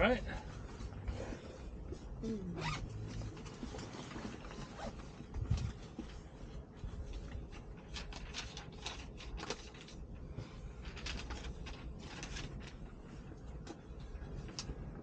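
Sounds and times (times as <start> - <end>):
steady low rumble: 0.0 - 15.0
rustling and clicking of handling: 0.3 - 15.0.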